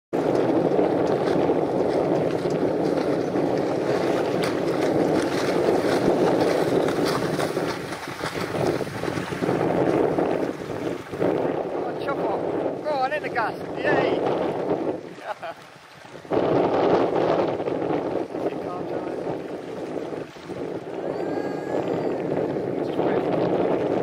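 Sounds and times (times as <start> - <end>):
wind blowing across microphone: 0.1 - 24.0.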